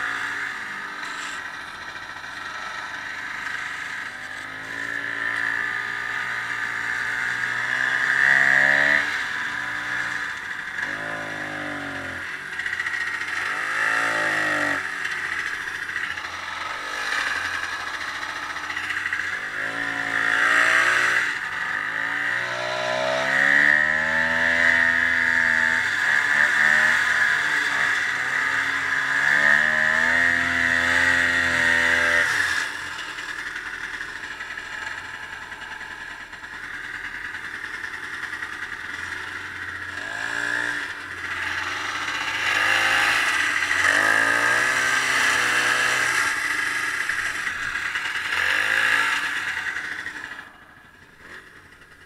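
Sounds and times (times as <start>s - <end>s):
snowmobile engine: 0.0s - 52.0s.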